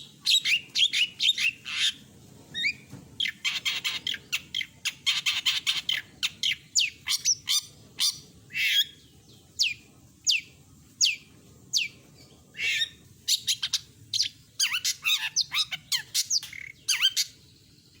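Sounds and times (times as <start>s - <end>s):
shrike singing: 0.0s - 18.0s.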